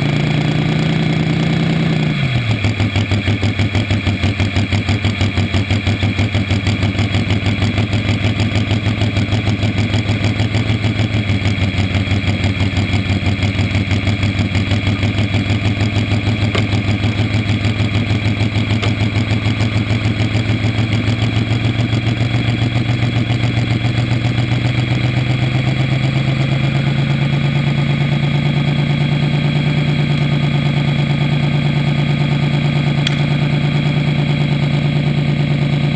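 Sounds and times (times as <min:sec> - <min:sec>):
dragster engine idling: 0:00.0 - 0:35.9.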